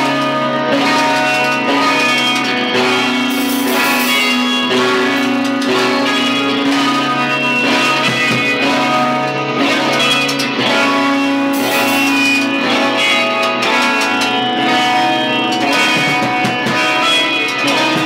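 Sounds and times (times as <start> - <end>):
electric guitar ringing chords: 0.0 - 18.0.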